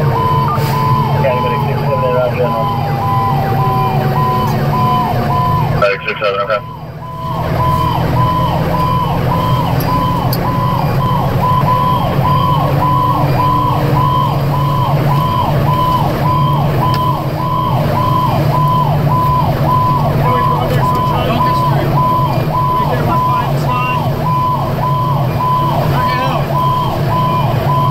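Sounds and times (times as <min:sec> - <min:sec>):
fire engine siren wailing: 0:00.0 - 0:27.9
truck engine and road drone: 0:00.0 - 0:27.9.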